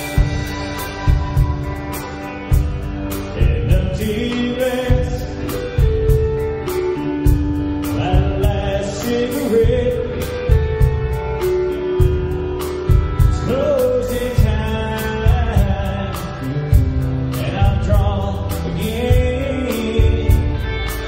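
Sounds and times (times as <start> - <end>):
guitar: 0.0 - 21.0
steady drum beat: 0.0 - 21.0.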